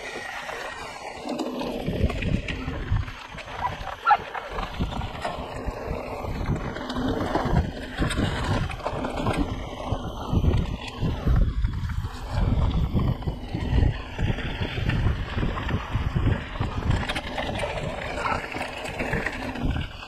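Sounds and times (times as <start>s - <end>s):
bike tyres rolling on dirt: 0.0s - 20.0s
wind rushing over microphone: 0.0s - 20.0s.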